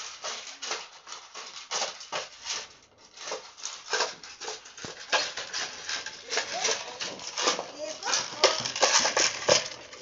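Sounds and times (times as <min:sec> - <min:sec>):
dog crunching kibble from metal bowl: 0:00.0 - 0:10.0.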